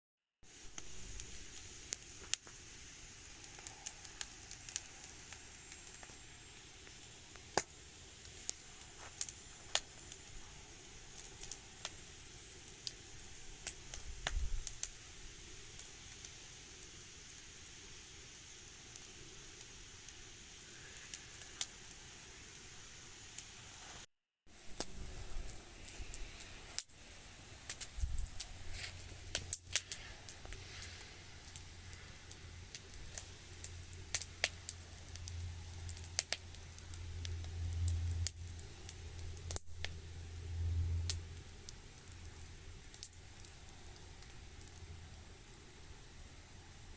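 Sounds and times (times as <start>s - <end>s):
wood fire crackling and popping: 0.4s - 46.9s.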